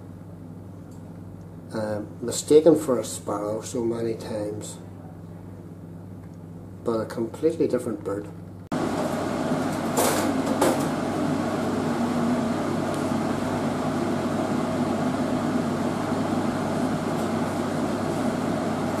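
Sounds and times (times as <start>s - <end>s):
machine hum and hiss: 0.0s - 19.0s.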